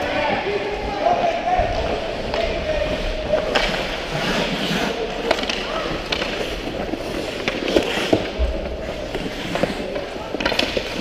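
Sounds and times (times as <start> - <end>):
hockey sticks and puck clacking: 0.0 - 11.0
skate blades scraping ice: 0.0 - 11.0.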